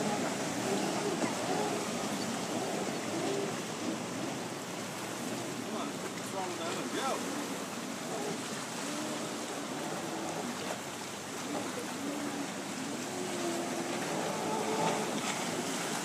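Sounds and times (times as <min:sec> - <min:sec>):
choppy water hiss: 0:00.0 - 0:16.0
jet ski engine droning: 0:00.0 - 0:16.0
wind: 0:00.0 - 0:16.0.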